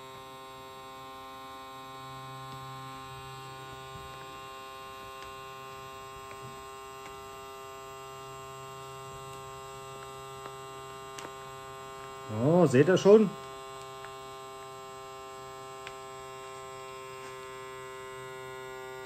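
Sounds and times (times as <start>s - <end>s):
electric vacuum pump humming: 0.0s - 19.0s.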